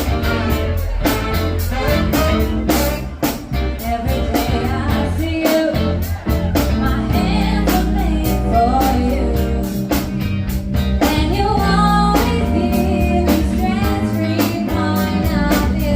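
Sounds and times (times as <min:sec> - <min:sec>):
person singing with a band: 0:00.0 - 0:15.9.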